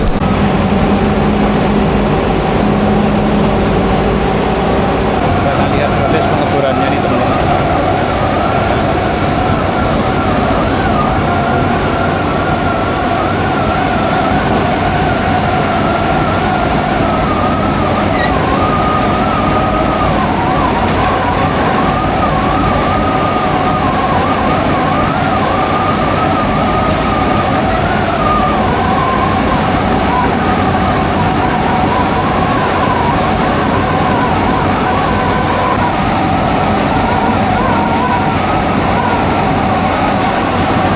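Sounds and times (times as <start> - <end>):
vehicle engine and road noise: 0.0 - 40.9
whine wandering in pitch: 0.0 - 40.9.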